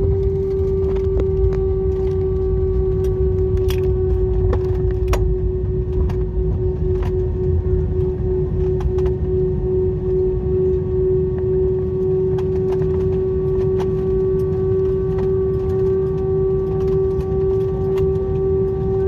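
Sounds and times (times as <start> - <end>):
airliner wheels and engines rumbling: 0.0 - 19.0
fainter higher whines: 0.0 - 19.0
steady engine whine: 0.0 - 19.0.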